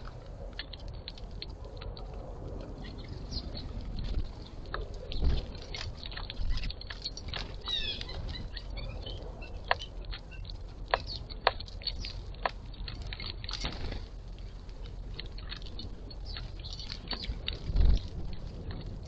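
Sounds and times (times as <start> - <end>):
birds pecking seeds: 0.0 - 19.0.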